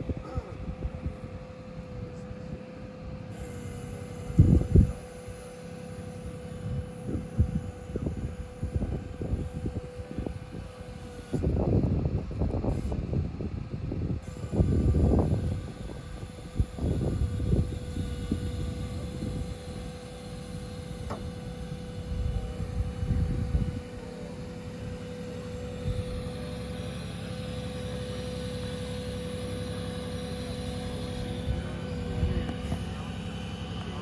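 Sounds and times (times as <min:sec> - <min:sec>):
truck engine and hydraulic crane hum: 0:00.0 - 0:34.0.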